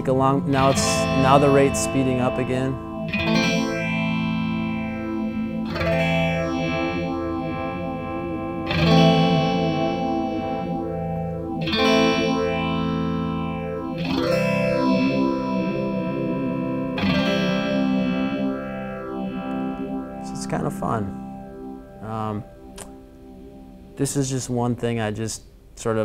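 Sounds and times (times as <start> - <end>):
phased electric guitar chords: 0.0 - 24.5.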